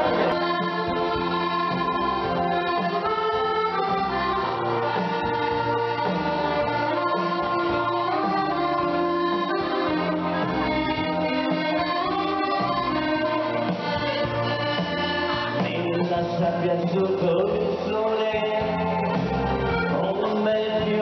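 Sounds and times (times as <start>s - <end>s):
accordion playing dance tune: 0.0s - 21.0s.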